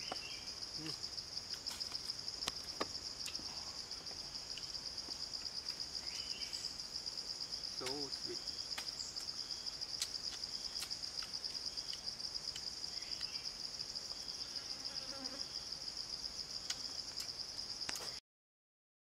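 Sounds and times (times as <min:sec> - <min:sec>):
insect chorus trilling: 0:00.0 - 0:18.2.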